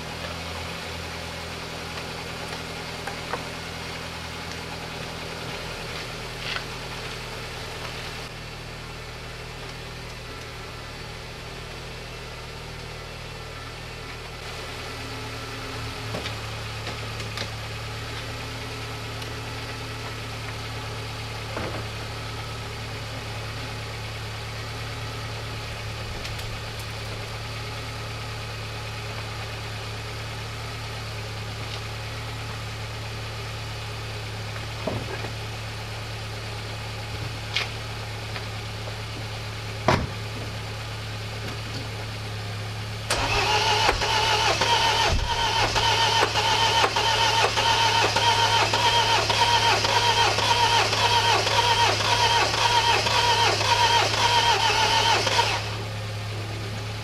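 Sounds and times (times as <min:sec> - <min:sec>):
low engine-like hum: 0:00.0 - 0:57.0.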